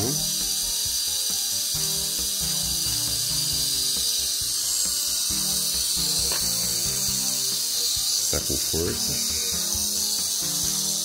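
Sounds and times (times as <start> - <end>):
background music: 0.0 - 11.0
electric motor high hiss: 0.0 - 11.0.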